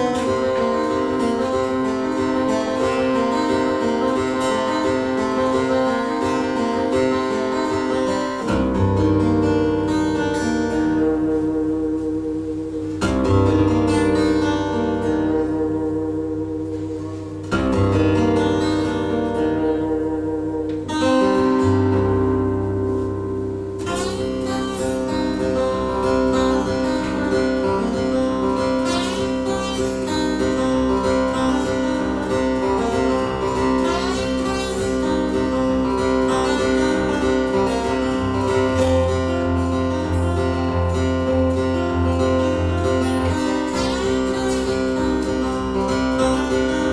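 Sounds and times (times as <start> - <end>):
acoustic guitar playing: 0.0 - 46.9.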